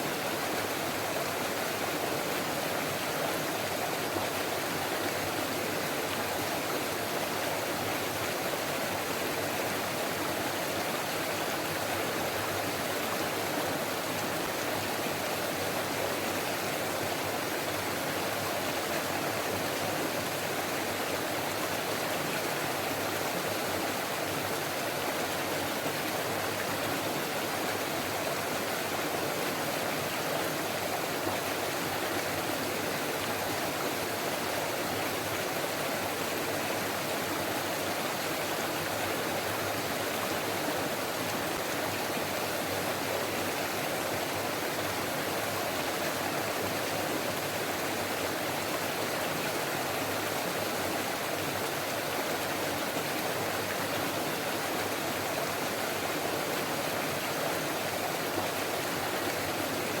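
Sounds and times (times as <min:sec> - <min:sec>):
stream babbling over rocks: 0:00.0 - 1:00.0.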